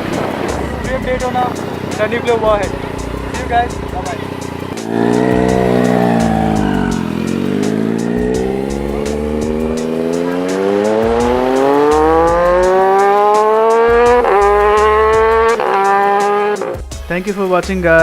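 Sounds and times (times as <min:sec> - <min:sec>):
motorcycle engine accelerating: 0:00.0 - 0:16.9
music with a beat: 0:00.0 - 0:18.0.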